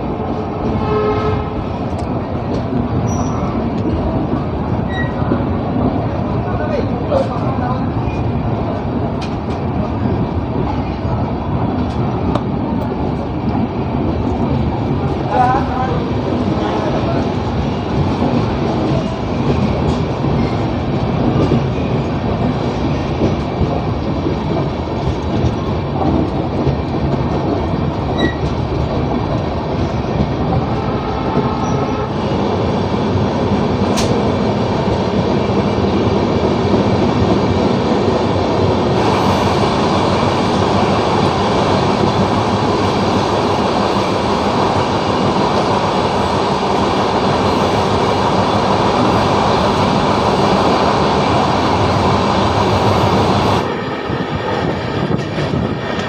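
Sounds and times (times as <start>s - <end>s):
train wheels clattering on rails: 6.8s - 32.7s, 33.5s - 56.0s.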